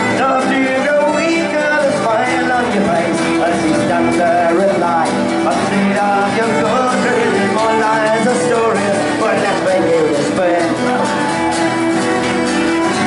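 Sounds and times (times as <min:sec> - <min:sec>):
acoustic guitar: 0:00.0 - 0:13.0
fiddle playing: 0:00.0 - 0:13.0.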